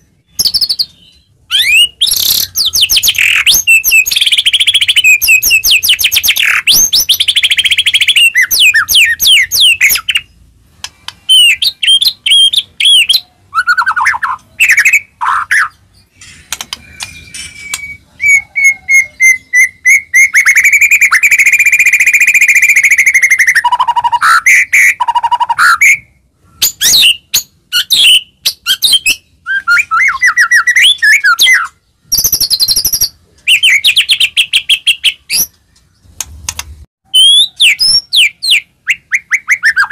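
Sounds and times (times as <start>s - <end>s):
bird singing whistles and trills: 0.1s - 10.3s, 11.0s - 16.1s, 16.7s - 36.1s, 37.1s - 39.9s.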